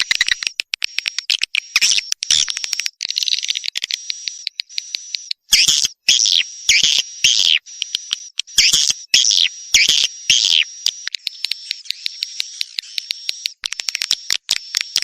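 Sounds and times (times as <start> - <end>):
buzzy twittering bird chirps: 0.0 - 15.0
high trill with rapid clicks: 0.0 - 15.0.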